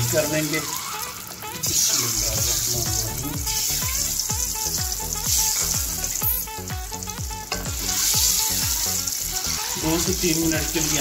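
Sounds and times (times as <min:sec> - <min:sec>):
background music with steady beat: 0:00.0 - 0:11.0
eggs sizzling in hot oil: 0:00.0 - 0:11.0.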